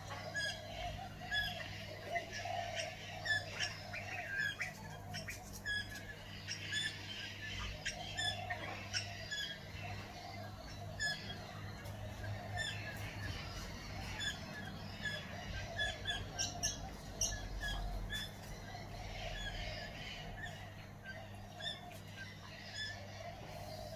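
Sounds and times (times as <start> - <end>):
birds chirping and squawking: 0.0 - 23.9
steady low hum: 0.0 - 23.9.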